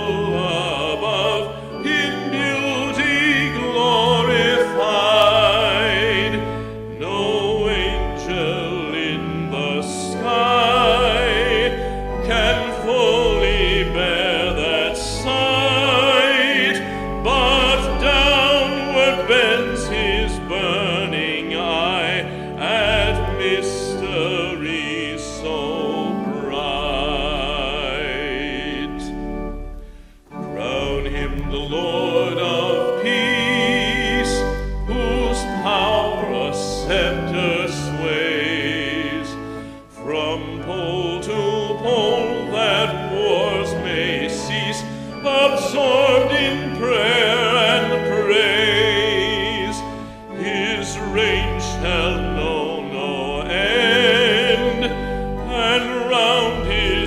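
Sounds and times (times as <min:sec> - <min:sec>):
sustained instrumental accompaniment: 0:00.0 - 0:57.0.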